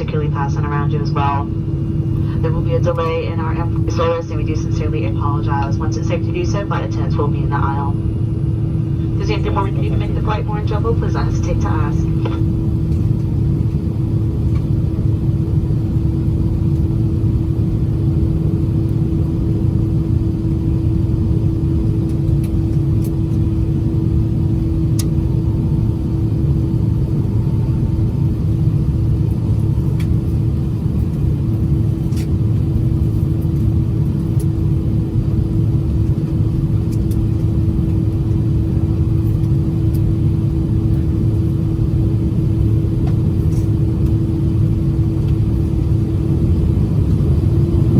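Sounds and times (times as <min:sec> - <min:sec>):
aircraft cabin engine rumble: 0:00.0 - 0:47.9.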